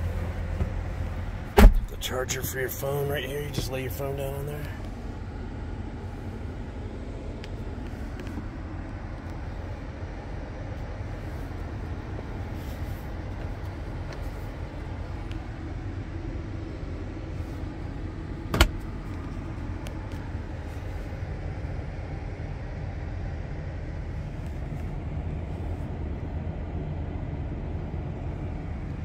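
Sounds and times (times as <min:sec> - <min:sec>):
low rumble inside car cabin: 0:00.0 - 0:29.0.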